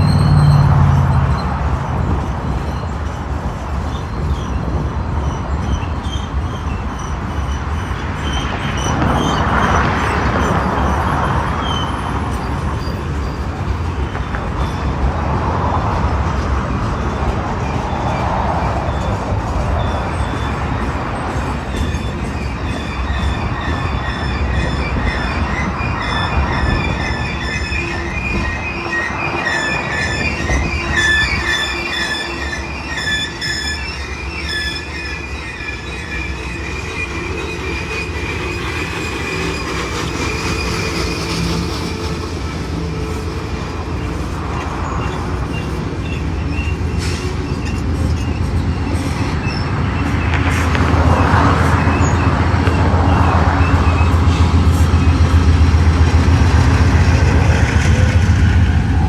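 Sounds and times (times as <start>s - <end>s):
freight train rumbling past: 0.0s - 59.0s
wheel flanges squealing: 0.0s - 59.0s.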